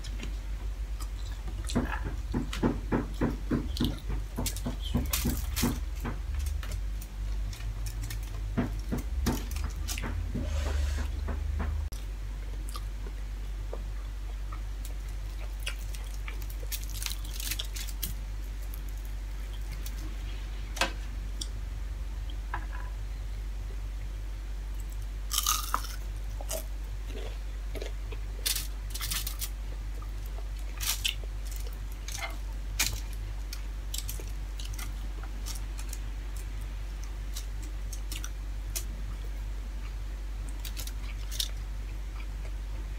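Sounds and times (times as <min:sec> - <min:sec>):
steady low hum: 0:00.0 - 0:42.9
chewing and crunching food: 0:01.0 - 0:10.3, 0:11.9 - 0:20.3, 0:24.7 - 0:42.9.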